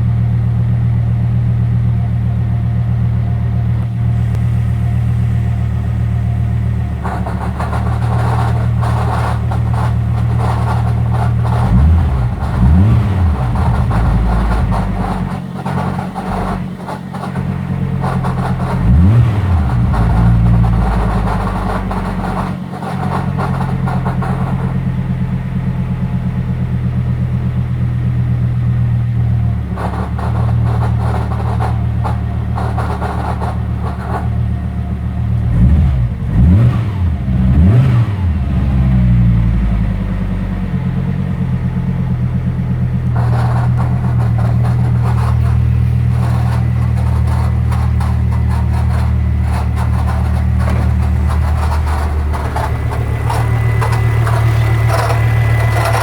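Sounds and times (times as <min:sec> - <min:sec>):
car engine idling and revving: 0:00.0 - 0:56.0
rough mechanical noise: 0:00.0 - 0:56.0.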